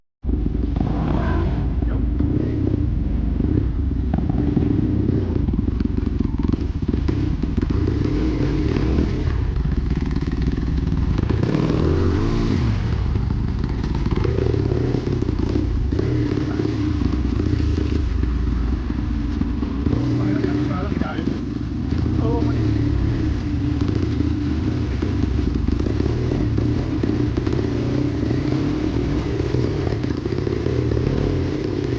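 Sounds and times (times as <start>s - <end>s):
dirt bike engine running: 0.2s - 31.9s.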